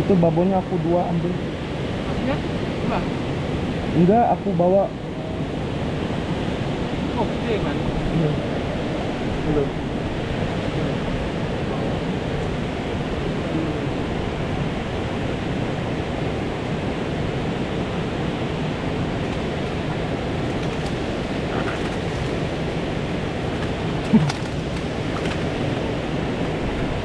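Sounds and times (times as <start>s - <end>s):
fast-flowing river rushing: 0.0s - 27.0s.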